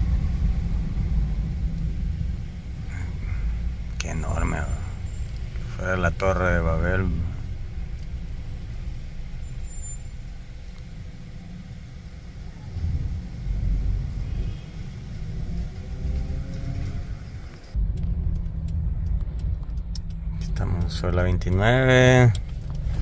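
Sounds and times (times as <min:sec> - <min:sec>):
faint vehicle engine hum: 0:00.0 - 0:23.0
road traffic rumble: 0:00.0 - 0:23.0.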